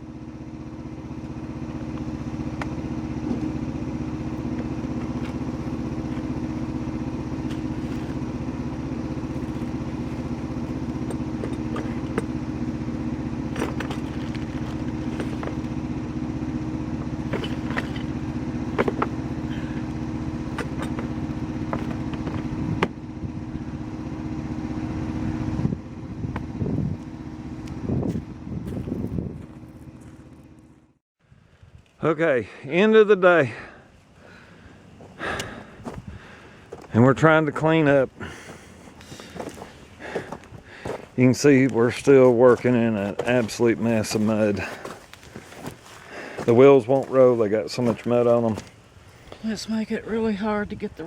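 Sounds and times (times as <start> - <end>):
excavator engine running: 0.0 - 51.0.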